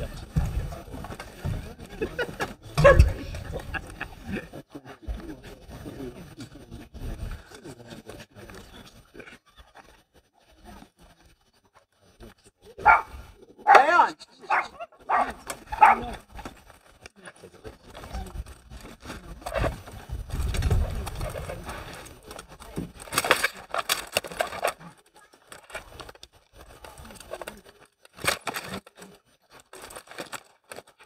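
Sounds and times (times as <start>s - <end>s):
low voices of onlookers: 0.0s - 11.1s, 11.7s - 29.8s.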